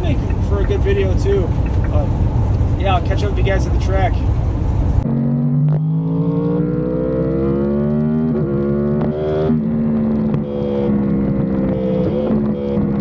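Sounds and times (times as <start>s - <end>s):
vehicle engine accelerating: 0.0s - 13.0s.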